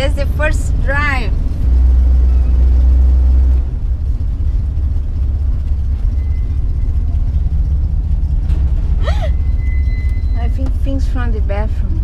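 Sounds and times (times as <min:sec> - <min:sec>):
motorhome engine and road rumble: 0:00.0 - 0:12.0.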